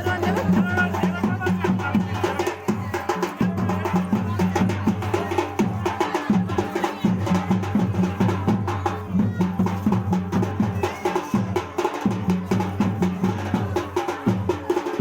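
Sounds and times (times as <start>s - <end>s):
fast drumming: 0.0s - 15.0s.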